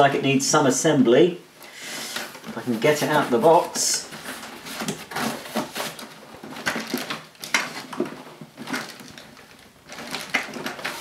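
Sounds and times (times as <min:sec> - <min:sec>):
cardboard box rustling: 0:02.1 - 0:11.0.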